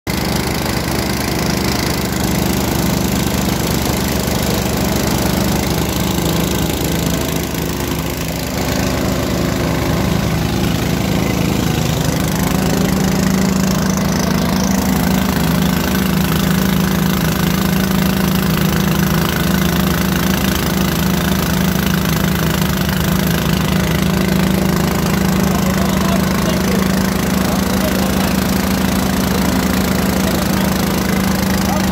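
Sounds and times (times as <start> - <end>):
drilling rig engine humming: 0.1 - 31.9.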